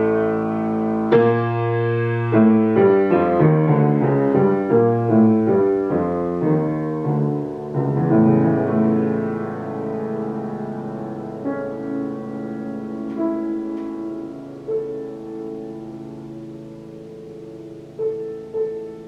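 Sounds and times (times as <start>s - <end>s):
solo grand piano playing: 0.0s - 19.0s.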